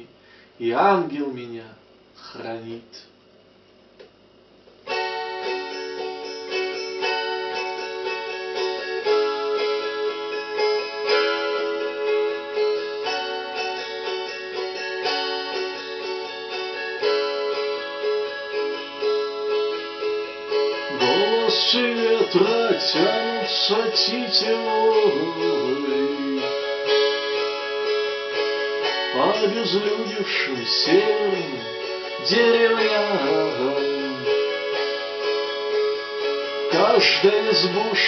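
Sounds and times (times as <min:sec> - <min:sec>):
plucked strings ringing: 0:04.8 - 0:38.0.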